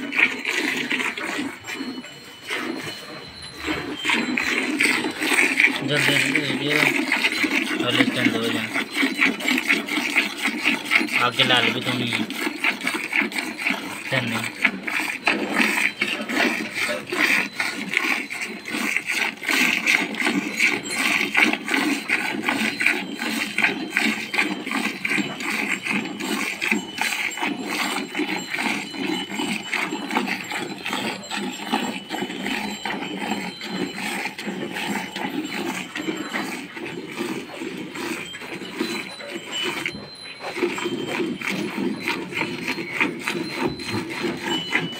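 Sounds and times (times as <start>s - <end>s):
milk squirting into metal pail: 0.0s - 44.9s.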